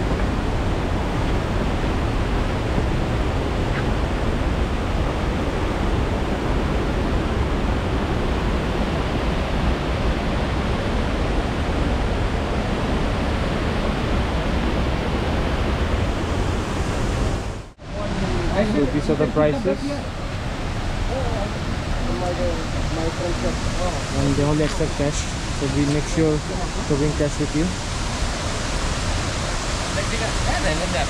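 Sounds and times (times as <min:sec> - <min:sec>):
fast-flowing water rushing: 0:00.0 - 0:31.0.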